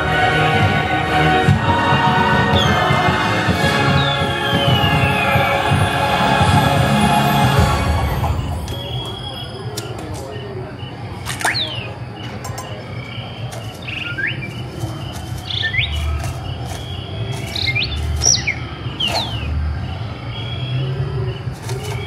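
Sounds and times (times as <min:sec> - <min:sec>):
birds chirping: 0:01.9 - 0:22.0.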